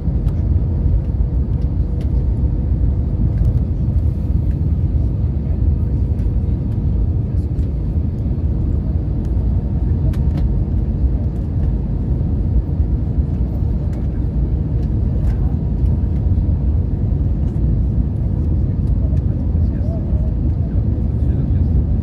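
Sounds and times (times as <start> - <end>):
airplane engines rumbling in cabin: 0.0 - 22.0.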